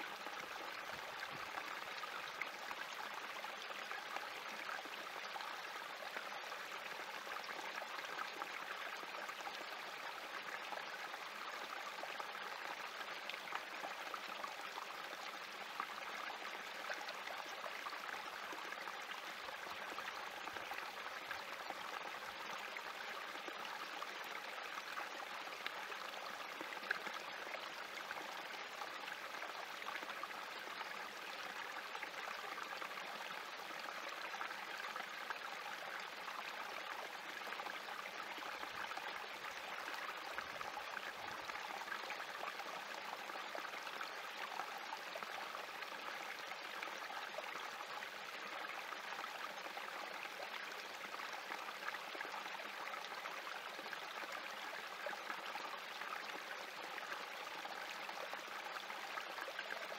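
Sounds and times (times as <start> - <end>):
water trickling over rocks: 0.0 - 59.9.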